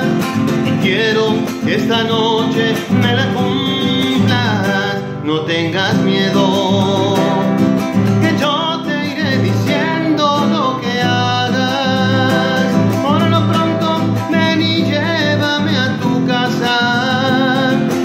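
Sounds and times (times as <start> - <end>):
acoustic guitar strumming: 0.0 - 18.0
man singing: 0.0 - 18.0.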